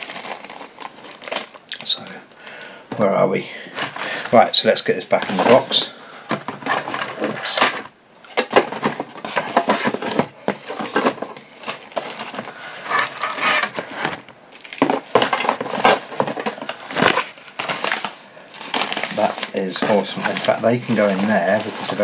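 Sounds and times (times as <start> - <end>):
components and packaging handled: 0.0 - 22.0.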